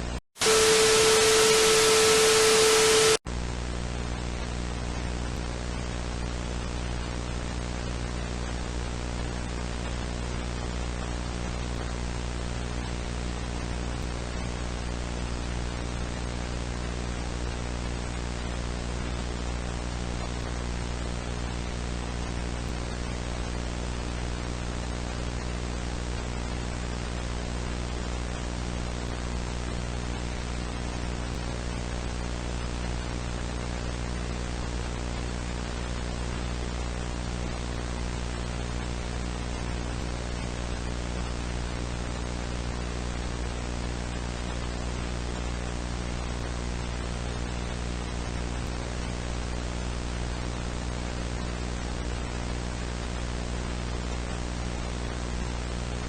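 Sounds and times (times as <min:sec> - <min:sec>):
broadcast static with tone: 0:00.0 - 0:56.0
electrical hum under hiss: 0:00.0 - 0:56.0.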